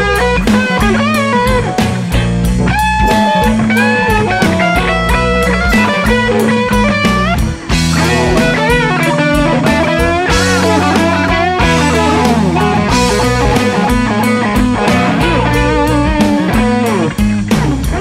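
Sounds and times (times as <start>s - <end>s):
drums: 0.0s - 18.0s
lead electric guitar bending notes: 0.0s - 18.0s.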